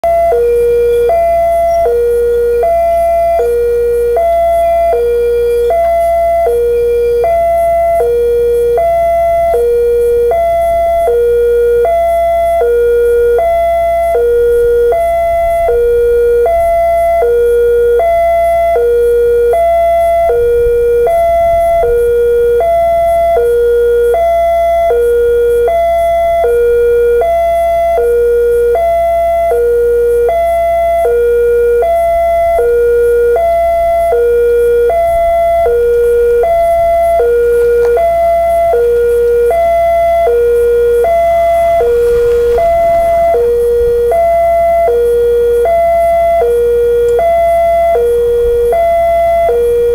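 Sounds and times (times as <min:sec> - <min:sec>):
level crossing two-tone alarm: 0:00.0 - 0:49.9.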